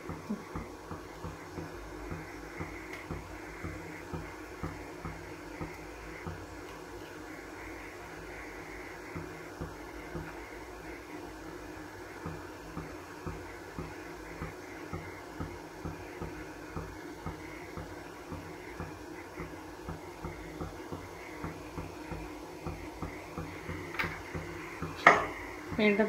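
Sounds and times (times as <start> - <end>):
water simmering with hiss: 0.0 - 26.0.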